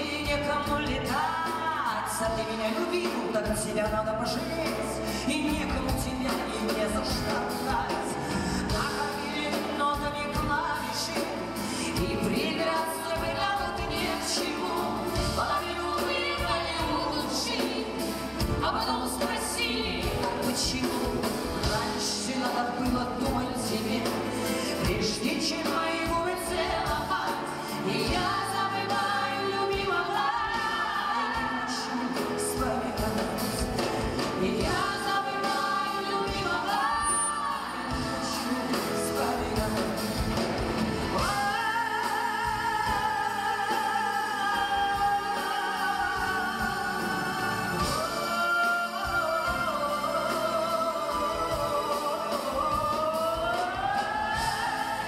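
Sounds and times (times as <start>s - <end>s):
woman singing slow song: 0.0s - 55.0s.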